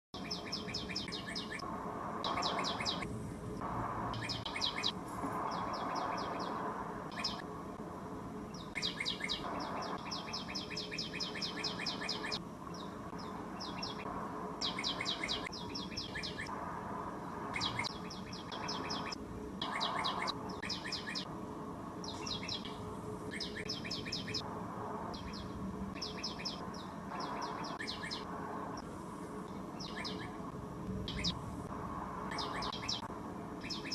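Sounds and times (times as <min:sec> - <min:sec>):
birds chirping in rapid trills: 0:00.2 - 0:03.1, 0:04.0 - 0:07.6, 0:08.3 - 0:28.9, 0:29.5 - 0:31.4, 0:32.2 - 0:33.9
steady background hiss: 0:00.2 - 0:33.9.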